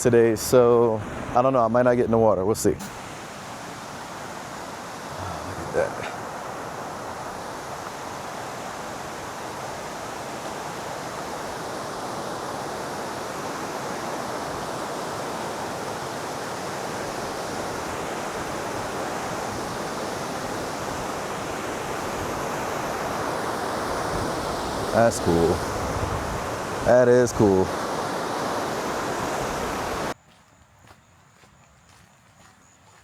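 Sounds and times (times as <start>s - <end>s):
flowing water rushing: 0.0s - 30.2s.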